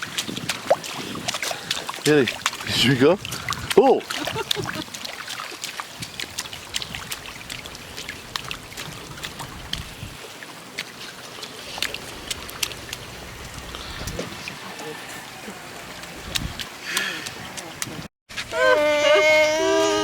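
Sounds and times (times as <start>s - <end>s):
water dripping: 0.0s - 18.0s
faint wash of water: 0.0s - 20.0s.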